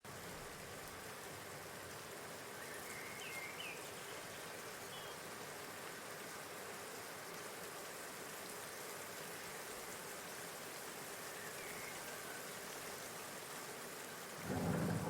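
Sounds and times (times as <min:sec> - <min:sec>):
outdoor hiss: 0:00.1 - 0:15.0.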